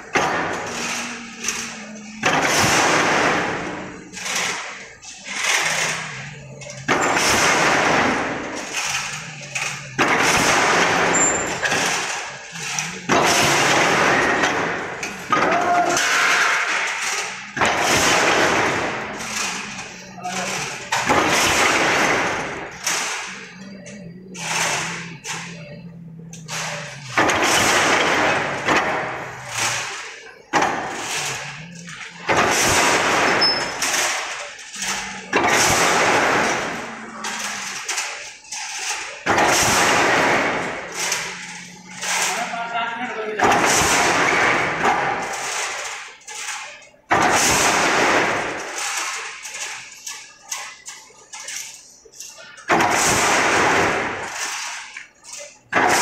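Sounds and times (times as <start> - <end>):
wire mesh machine clattering: 0.0 - 56.0.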